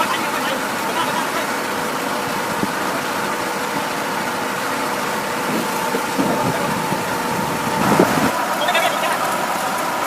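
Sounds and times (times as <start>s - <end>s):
heavy machine engine whining: 0.0s - 10.0s.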